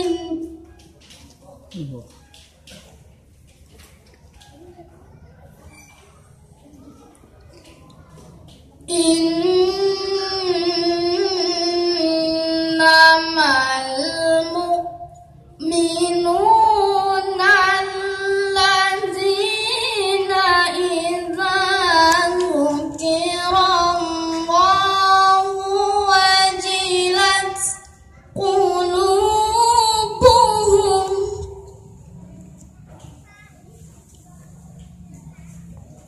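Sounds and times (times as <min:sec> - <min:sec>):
boy chanting recitation: 0:00.0 - 0:03.1, 0:06.2 - 0:36.0.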